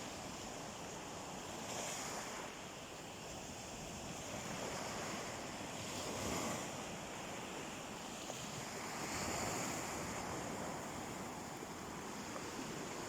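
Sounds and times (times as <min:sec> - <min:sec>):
sea waves washing onto beach: 0:00.0 - 0:13.0.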